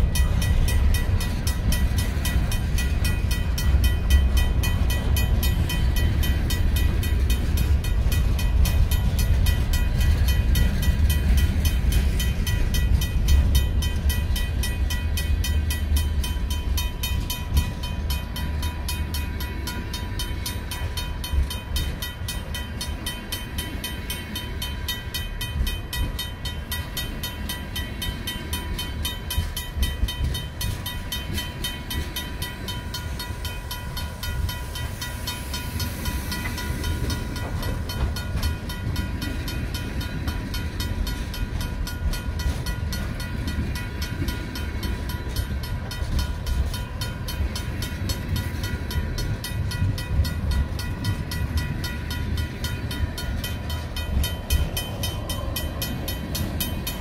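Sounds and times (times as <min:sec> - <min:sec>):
crossing bell ringing: 0:00.0 - 0:57.0
freight train rolling past: 0:00.0 - 0:57.0.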